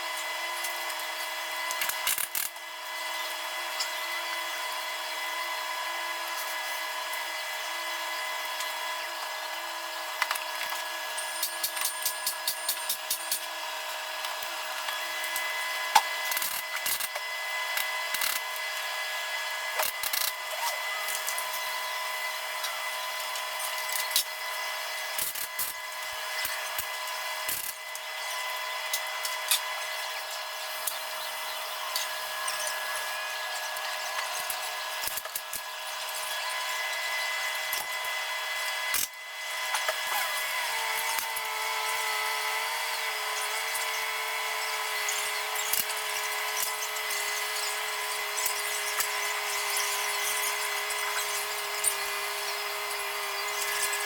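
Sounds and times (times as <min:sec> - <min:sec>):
high-pitched hum: 0:01.6 - 0:54.0.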